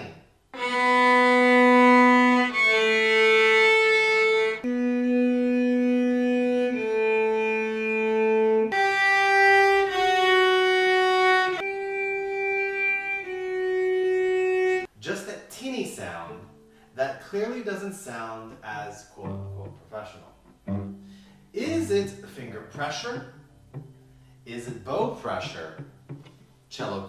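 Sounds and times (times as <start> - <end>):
cellos bowing sustained notes: 0.6 - 14.9, 18.6 - 26.7.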